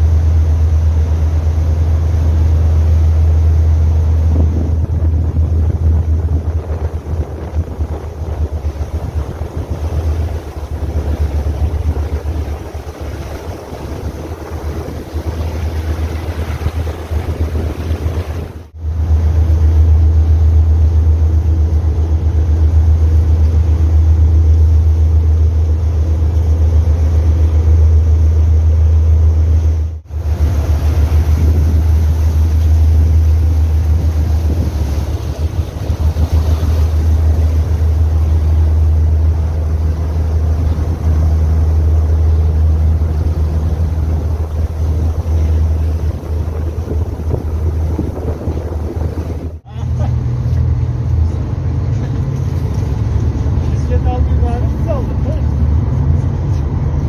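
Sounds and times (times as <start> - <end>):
ferry engine humming: 0.0 - 57.0
water noise: 0.0 - 57.0
wind: 0.0 - 57.0.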